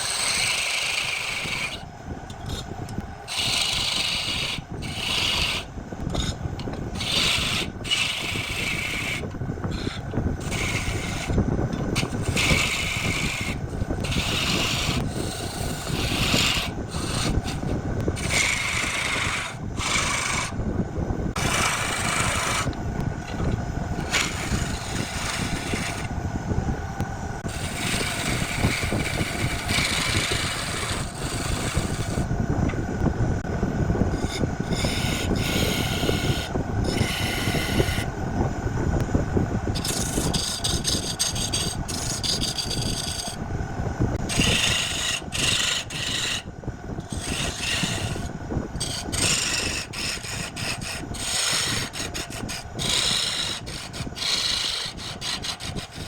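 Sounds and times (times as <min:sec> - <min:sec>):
wood rasping on a lathe: 0:00.0 - 0:20.6, 0:21.3 - 0:26.2, 0:27.4 - 0:32.3, 0:34.0 - 0:38.1, 0:39.7 - 0:43.4, 0:44.2 - 0:56.0
faint motor hum: 0:00.0 - 0:56.0.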